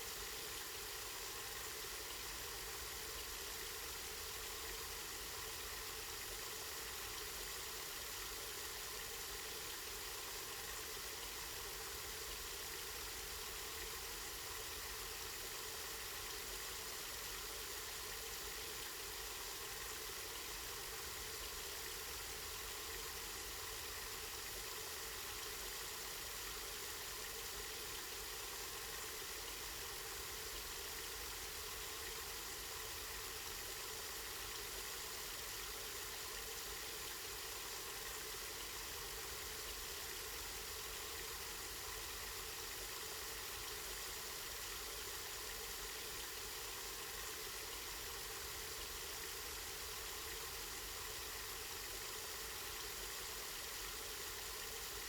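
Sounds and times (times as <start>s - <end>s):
spring water flowing: 0.2s - 55.0s.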